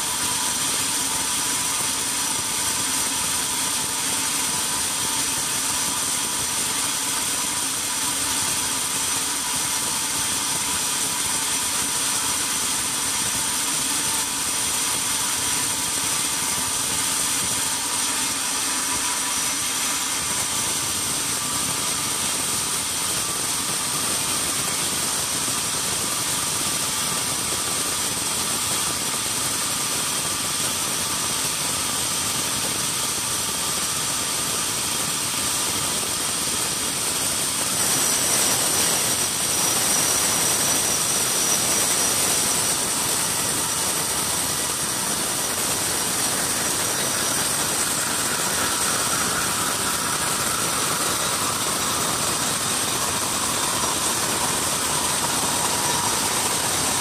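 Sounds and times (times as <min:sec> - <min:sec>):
band sawmill running: 0:00.0 - 0:57.0
high saw blade whine: 0:00.0 - 0:57.0.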